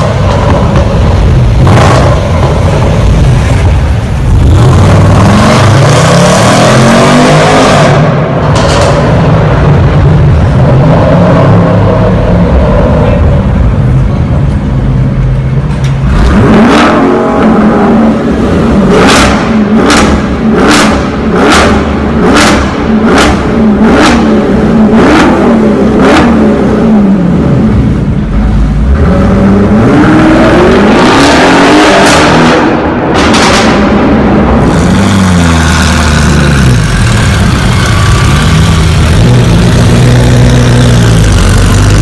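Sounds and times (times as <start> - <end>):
car engine revving with cracks: 0.0 - 42.0.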